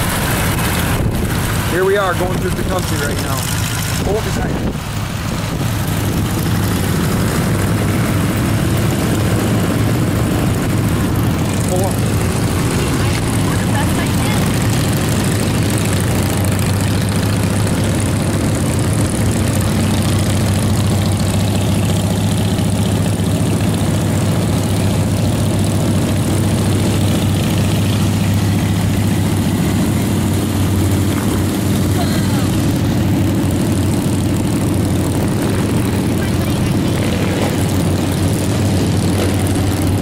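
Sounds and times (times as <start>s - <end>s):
motorcycle engines droning: 0.0s - 40.0s
wind and road noise: 0.0s - 40.0s.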